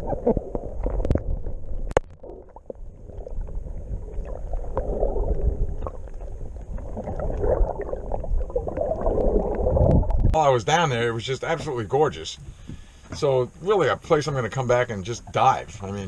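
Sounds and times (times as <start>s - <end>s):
underwater rumbling wash: 0.0s - 12.9s.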